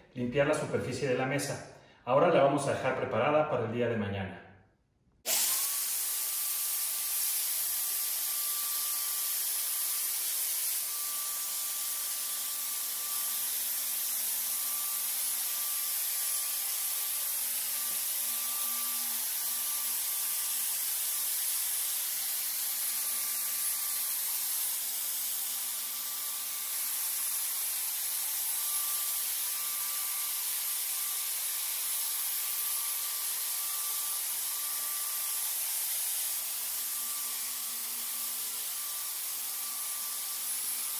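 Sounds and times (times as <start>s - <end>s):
sprayer hissing mist: 5.3s - 40.9s
sprayer motor whine: 5.3s - 40.9s.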